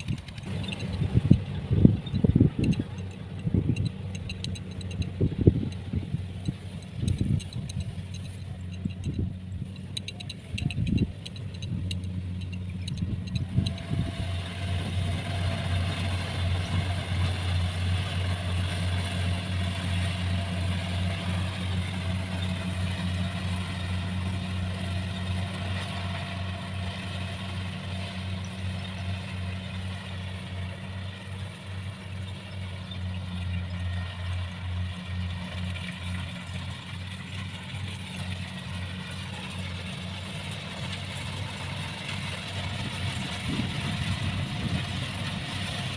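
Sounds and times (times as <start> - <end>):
harvester engine humming: 0.0 - 45.9.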